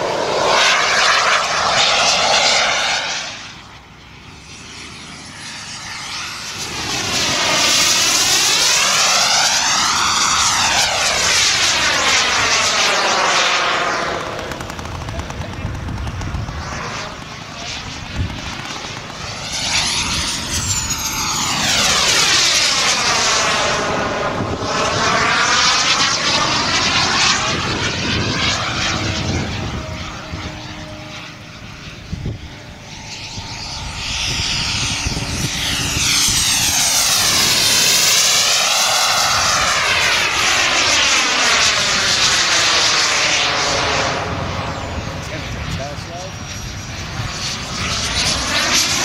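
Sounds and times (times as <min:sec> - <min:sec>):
jet turbine whine: 0:00.0 - 0:49.0.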